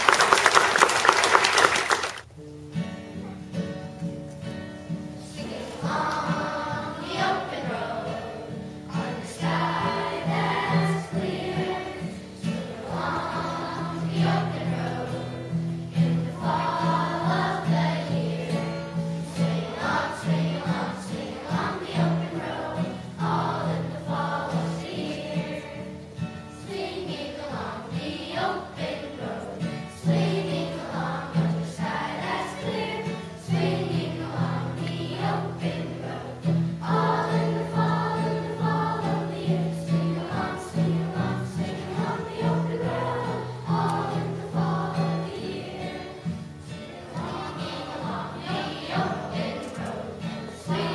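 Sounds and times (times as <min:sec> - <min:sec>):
children's choir singing: 0:00.0 - 0:02.3, 0:04.5 - 0:50.9
acoustic guitar: 0:02.1 - 0:50.9.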